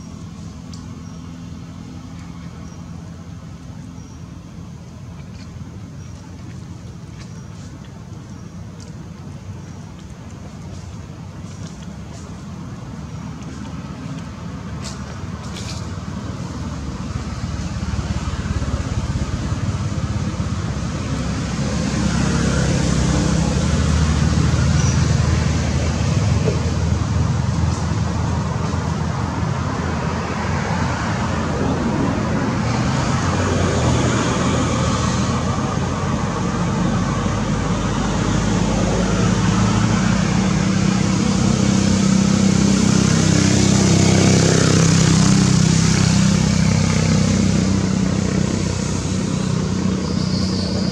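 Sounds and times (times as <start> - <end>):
road noise: 0.0 - 50.9
vehicle engines running: 0.0 - 50.9.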